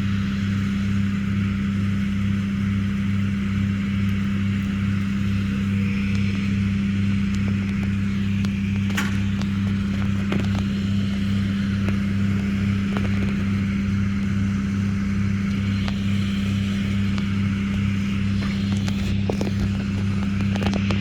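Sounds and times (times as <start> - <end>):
engine droning with throb: 0.0 - 21.0.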